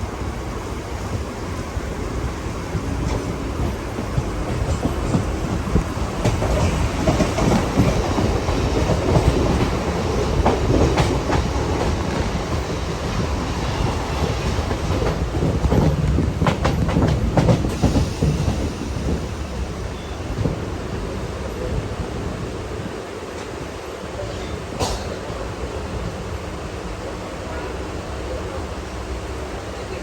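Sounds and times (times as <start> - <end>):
train wheels clattering over rails: 0.2 - 25.8.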